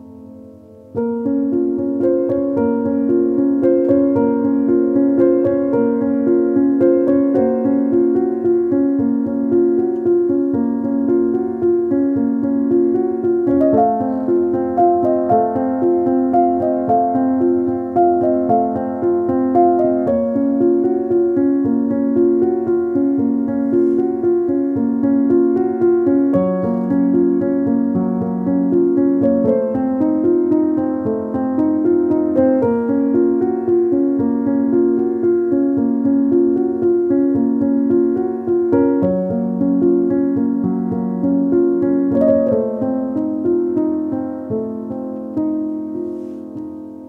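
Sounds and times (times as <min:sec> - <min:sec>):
background piano music: 0:00.0 - 0:47.0.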